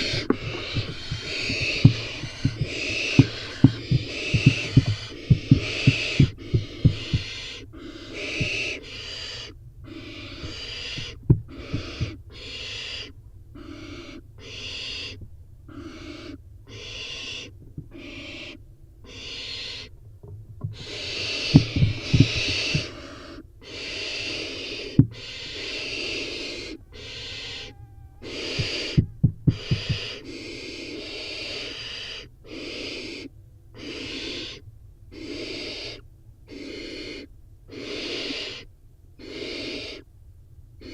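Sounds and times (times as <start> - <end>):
owl chicks hissing begging calls: 0.0 - 19.9, 20.7 - 40.1.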